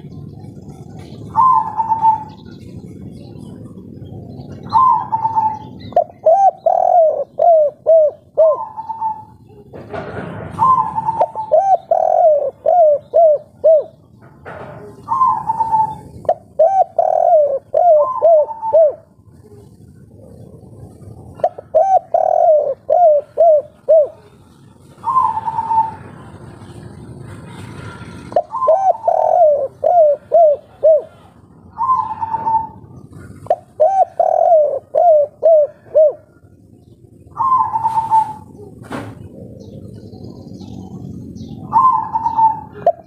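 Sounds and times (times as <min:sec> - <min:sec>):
dove cooing: 0:00.0 - 0:43.0.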